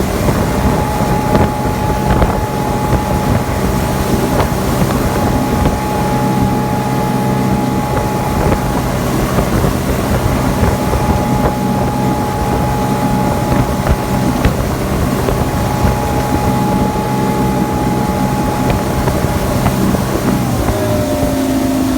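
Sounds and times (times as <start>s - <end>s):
boat engine running under load: 0.0s - 21.9s
wind buffeting microphone: 0.0s - 21.9s.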